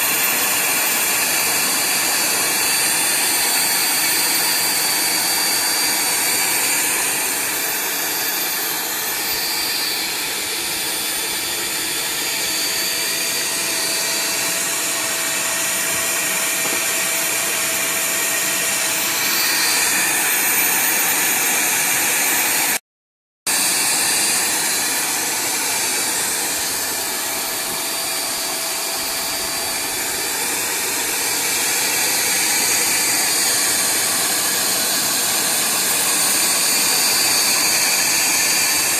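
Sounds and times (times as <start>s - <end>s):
vacuum cleaner running: 0.0s - 22.8s, 23.5s - 38.9s.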